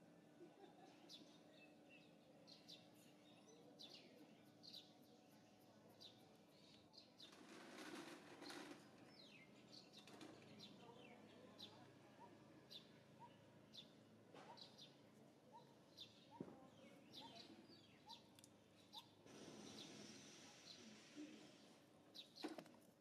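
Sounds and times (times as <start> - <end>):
faint birds chirping: 0.4 - 23.0.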